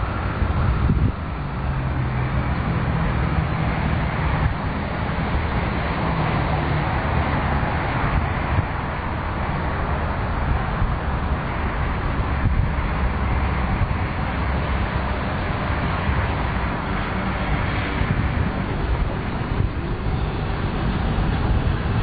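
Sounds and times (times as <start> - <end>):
outdoor rumble: 0.0 - 22.0
wind buffeting microphone: 0.0 - 22.0.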